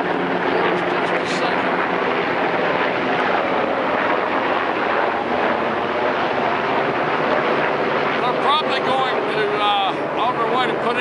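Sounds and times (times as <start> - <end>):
aircraft engine rushing overhead: 0.0 - 11.0.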